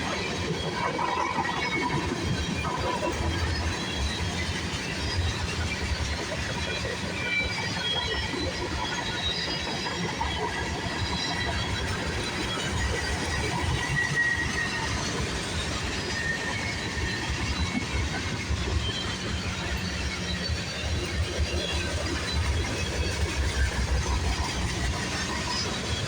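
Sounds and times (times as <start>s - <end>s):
freight train wheels rumbling: 0.0s - 26.0s
train wheels squealing: 0.0s - 26.0s.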